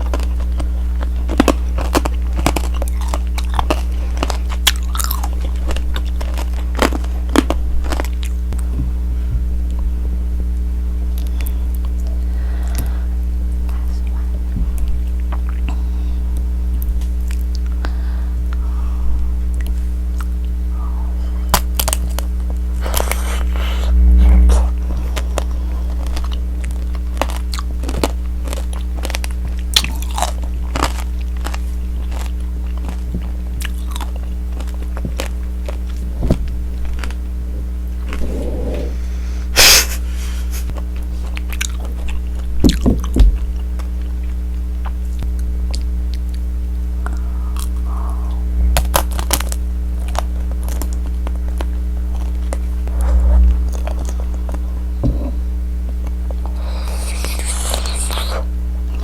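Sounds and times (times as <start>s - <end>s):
crunching and chewing candy: 0.0s - 9.9s, 11.1s - 23.9s, 24.8s - 59.0s
steady low hum: 0.0s - 59.0s.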